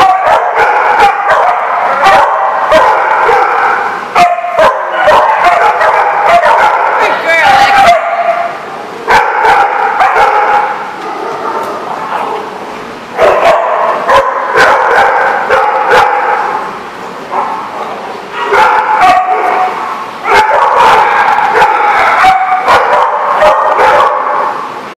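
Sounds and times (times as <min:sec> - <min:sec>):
dogs yipping and barking: 0:00.0 - 0:12.5, 0:13.1 - 0:24.8.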